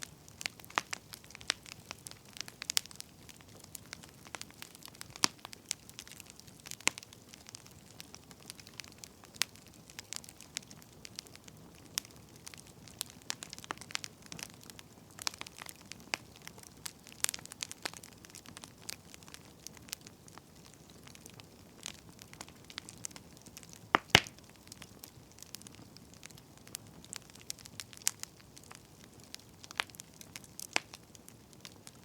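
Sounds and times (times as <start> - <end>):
burning firewood crackling: 0.0 - 32.0.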